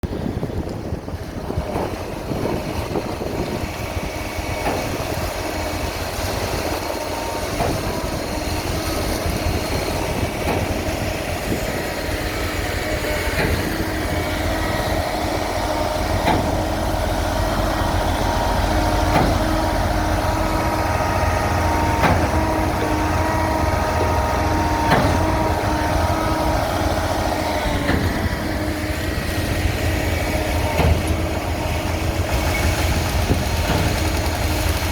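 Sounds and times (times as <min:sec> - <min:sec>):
heavy machinery engine rumbling: 0:00.0 - 0:34.9
whining tone: 0:04.6 - 0:33.0.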